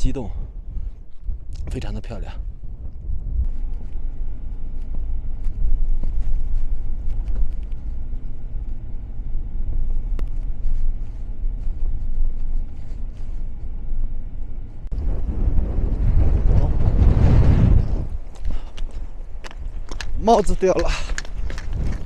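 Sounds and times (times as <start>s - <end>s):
wind noise rushing: 0.0s - 13.8s, 14.8s - 22.0s
car road and engine rumble: 0.0s - 22.0s.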